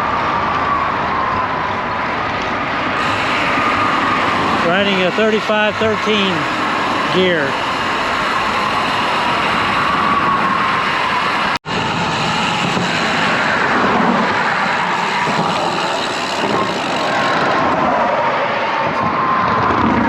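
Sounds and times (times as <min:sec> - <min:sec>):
highway traffic passing: 0:00.0 - 0:20.0.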